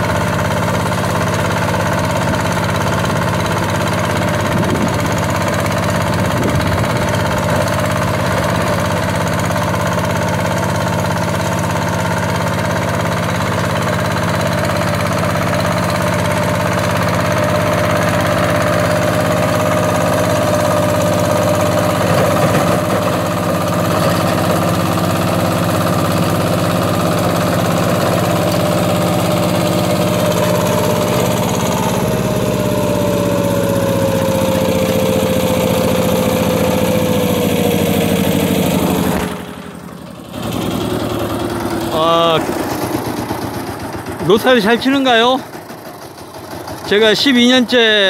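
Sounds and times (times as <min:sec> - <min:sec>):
diesel engine running under load: 0:00.0 - 0:48.0
rotary tiller churning soil: 0:00.0 - 0:48.0.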